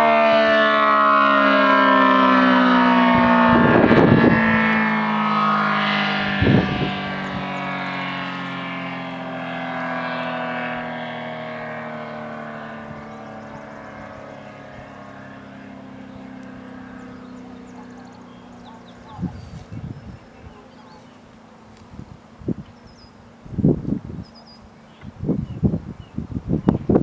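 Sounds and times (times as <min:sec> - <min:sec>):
warning siren winding down: 0:00.0 - 0:23.7.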